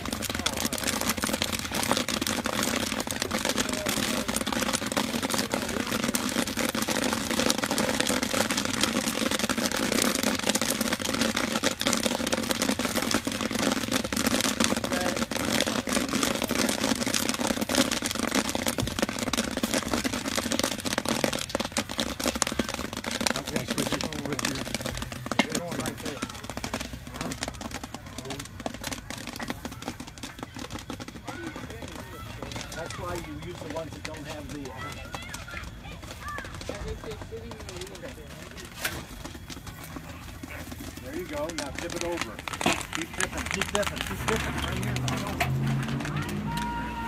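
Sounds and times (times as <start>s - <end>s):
corn kernels popping: 0.0s - 47.0s
wooden paddle stirring corn: 0.0s - 47.0s.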